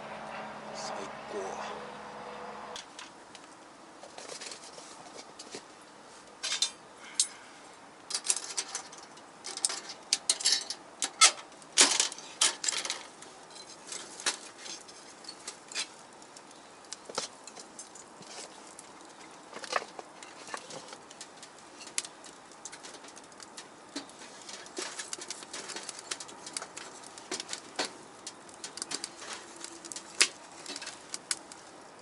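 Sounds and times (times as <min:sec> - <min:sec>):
firewood crackling in a stove: 0:02.1 - 0:32.0.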